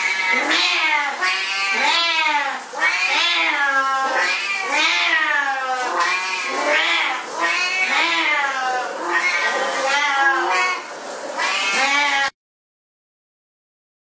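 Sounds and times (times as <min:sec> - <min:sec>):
cat yowling: 0:00.0 - 0:12.4.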